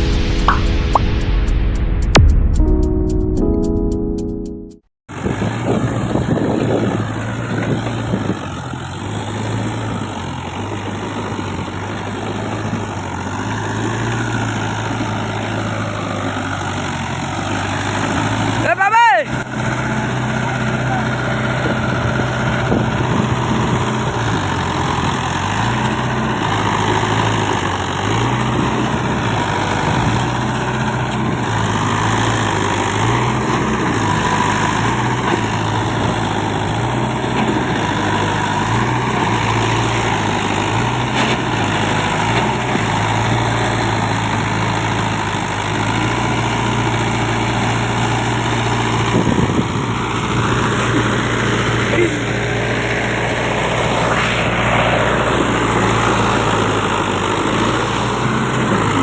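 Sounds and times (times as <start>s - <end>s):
tractor diesel engine running: 5.1s - 59.0s.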